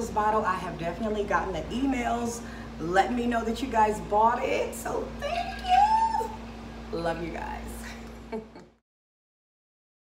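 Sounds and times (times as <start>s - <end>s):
low room hum: 0.0s - 8.8s.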